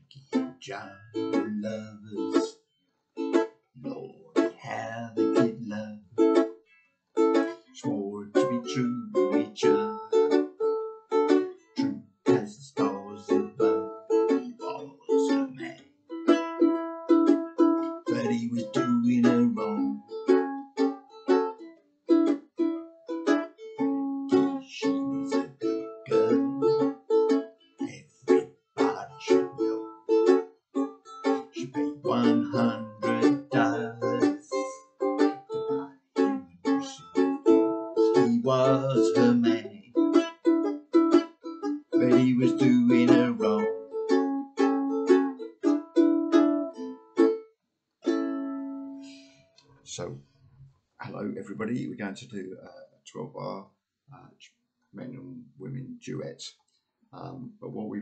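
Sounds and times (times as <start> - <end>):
ukulele strumming blues: 0.0 - 2.5, 3.2 - 6.6, 7.2 - 47.4, 48.0 - 49.2.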